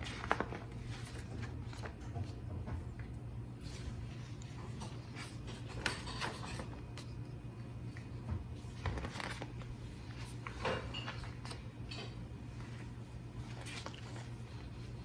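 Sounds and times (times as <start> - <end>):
paper and plastic rustling: 0.0 - 3.0, 3.6 - 7.2, 7.9 - 15.0
low steady hum: 0.0 - 15.0.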